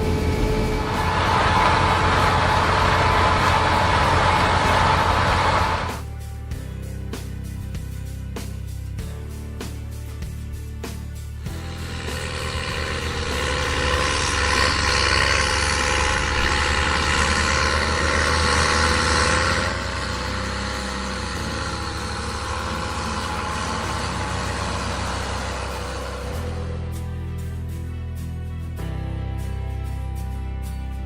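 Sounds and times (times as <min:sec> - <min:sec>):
diesel machinery engines running: 0:00.0 - 0:31.0.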